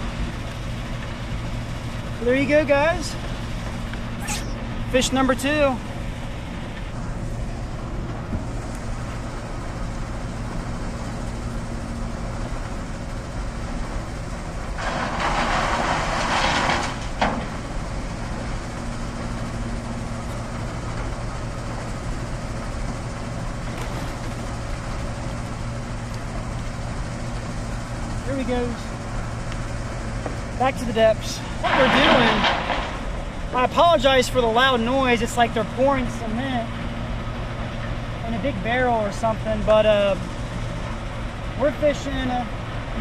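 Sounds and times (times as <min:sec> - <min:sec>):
construction machinery rumble: 0:00.0 - 0:43.0.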